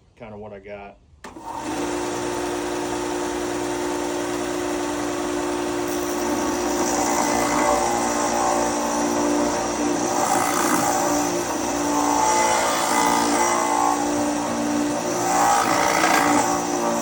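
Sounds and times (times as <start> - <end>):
grinder motor humming: 1.3 - 17.0.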